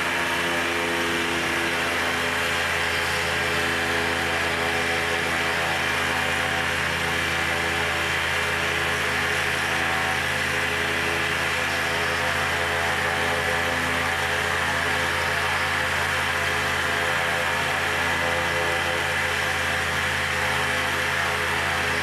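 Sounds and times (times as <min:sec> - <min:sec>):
aircraft engine running: 0:00.0 - 0:22.0.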